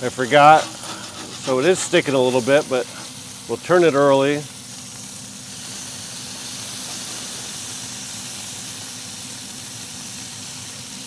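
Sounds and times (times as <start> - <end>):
bacon sizzling on a griddle: 0.0 - 11.0.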